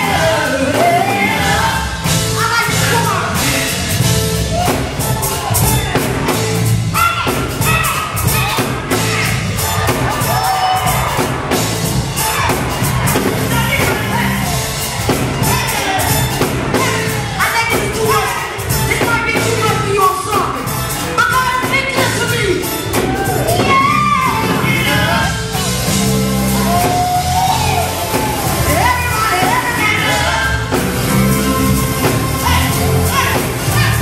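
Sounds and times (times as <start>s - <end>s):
vocal group singing: 0.0s - 18.4s, 23.1s - 34.0s
drum kit beat: 0.0s - 34.0s
gospel band playing: 0.0s - 34.0s.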